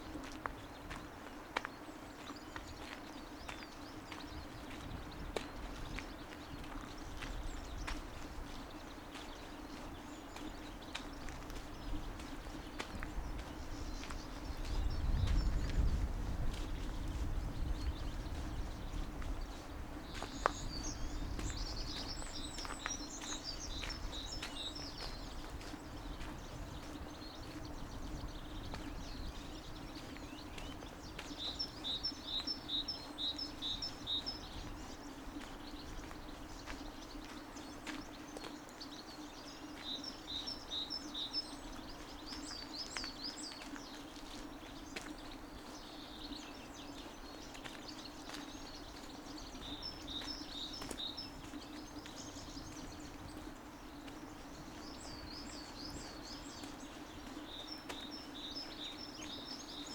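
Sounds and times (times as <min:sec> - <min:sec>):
outdoor background noise: 0:00.0 - 0:59.9.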